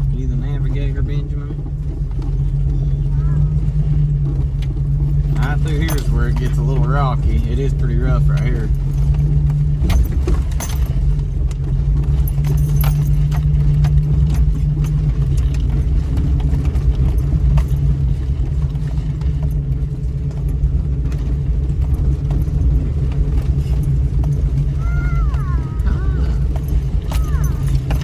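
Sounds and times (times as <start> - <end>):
low engine drone: 0.0 - 28.0
vehicle rattling and knocking over rocks: 0.0 - 28.0.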